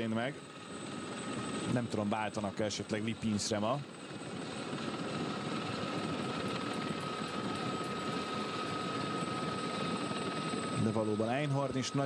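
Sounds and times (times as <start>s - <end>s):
fluttering engine drone: 0.0s - 12.0s.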